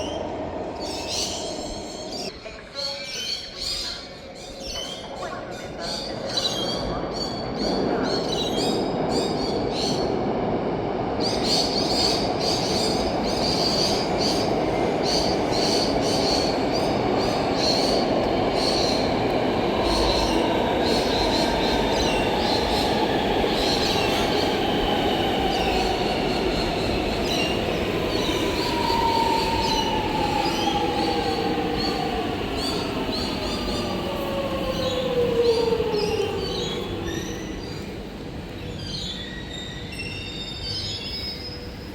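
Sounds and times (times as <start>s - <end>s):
train wheels rumbling on rails: 6.1s - 41.9s.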